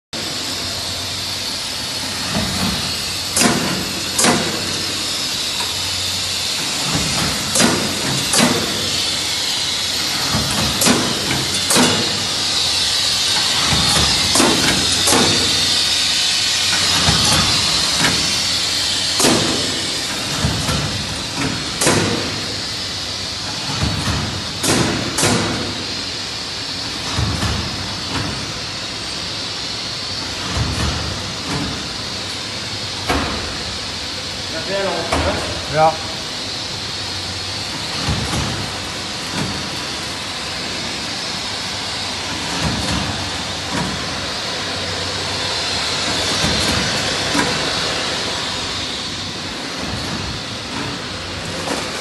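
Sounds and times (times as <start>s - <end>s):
wrapping machine hiss: 0.2s - 52.0s.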